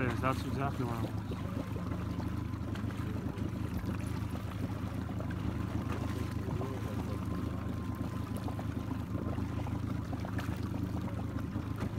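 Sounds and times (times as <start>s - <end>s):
boat engine idling: 0.0s - 11.9s
water lapping against hull: 0.0s - 11.9s.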